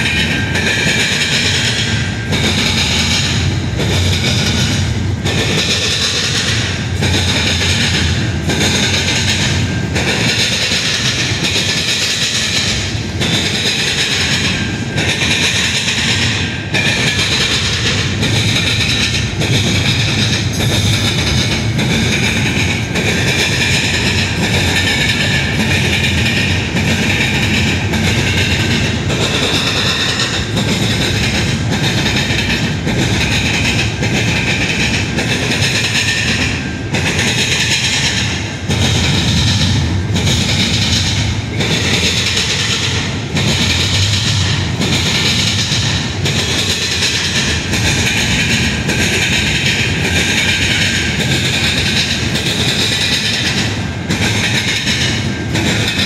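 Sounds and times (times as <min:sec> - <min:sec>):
freight train rumbling past: 0:00.0 - 0:56.0
wheels clacking over rail joints: 0:00.0 - 0:56.0.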